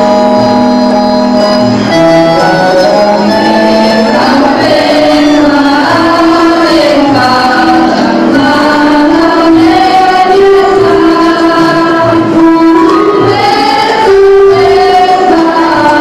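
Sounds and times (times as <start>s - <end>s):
women singing a folk song: 2.7s - 16.0s.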